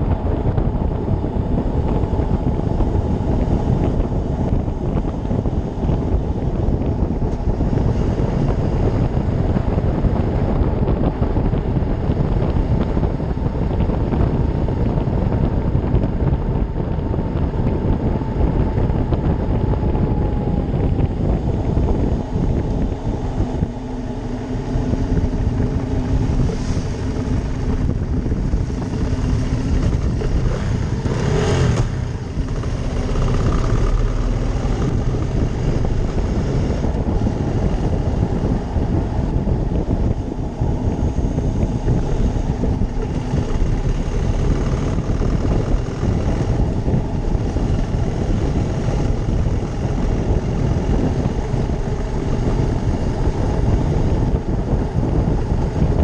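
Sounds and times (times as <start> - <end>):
motorcycle engine riding: 0.0 - 56.0
wind rush: 0.0 - 56.0.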